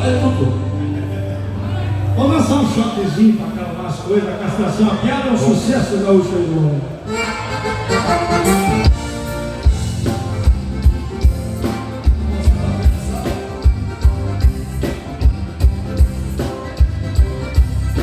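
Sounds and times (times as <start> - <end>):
live band music: 0.0 - 18.0.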